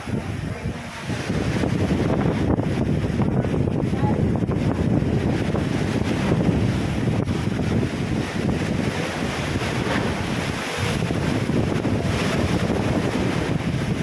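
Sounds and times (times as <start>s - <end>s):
sea waves splashing: 0.0s - 14.0s
wind buffeting microphone: 0.0s - 14.0s.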